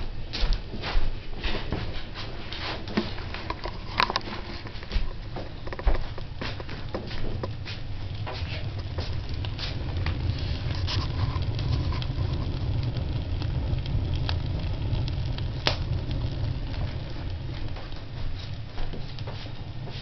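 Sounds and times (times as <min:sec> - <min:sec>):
fire rumbling in stove: 0:00.0 - 0:20.0
sharp crack of fire: 0:00.0 - 0:20.0.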